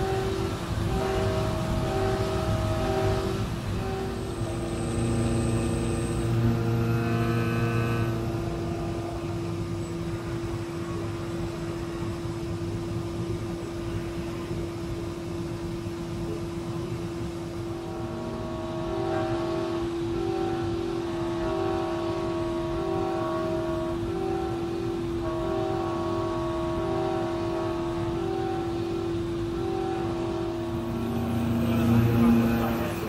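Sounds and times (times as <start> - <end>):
milling machine whine: 0.0 - 33.0.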